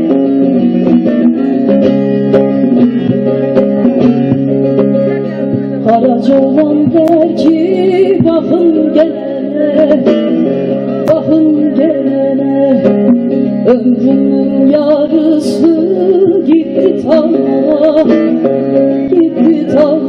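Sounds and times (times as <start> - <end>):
plucked lute folk melody: 0.0 - 20.0.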